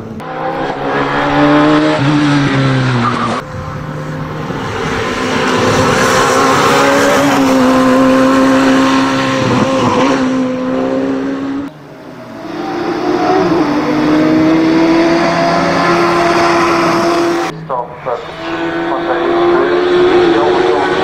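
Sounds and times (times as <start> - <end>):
high-revving race car engine: 0.0 - 21.0
race car engine accelerating: 0.0 - 21.0.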